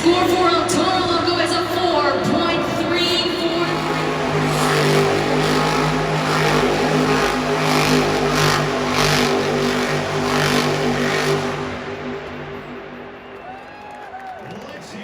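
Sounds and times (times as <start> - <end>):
truck engine at high revs: 0.0 - 13.4.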